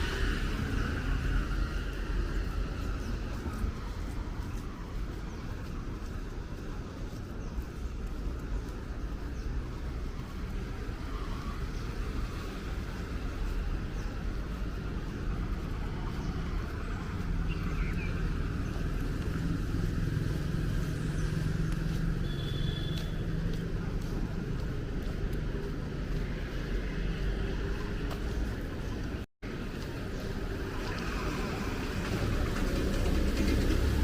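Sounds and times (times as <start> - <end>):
engine hum: 0.0 - 34.0
low rumble of road vehicles: 0.0 - 34.0.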